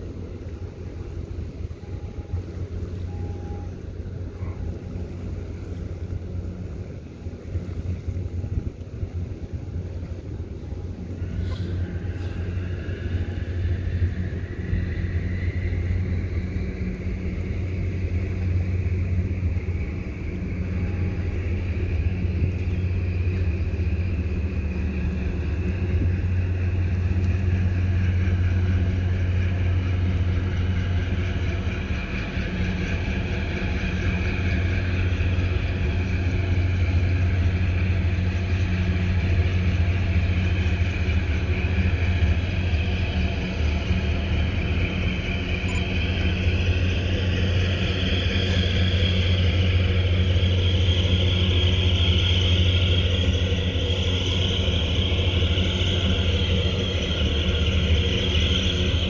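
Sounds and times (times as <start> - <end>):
low engine rumble: 0.0 - 59.0
rising whine: 0.0 - 59.0.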